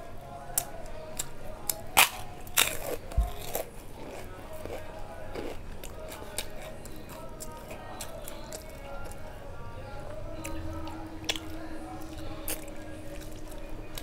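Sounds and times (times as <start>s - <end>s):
person chewing and crunching food: 0.1s - 14.0s.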